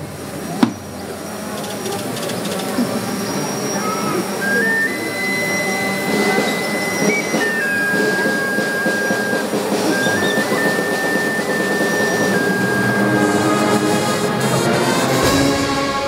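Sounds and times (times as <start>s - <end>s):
crowd noise: 0.0s - 16.0s
band playing funeral march: 3.0s - 16.0s.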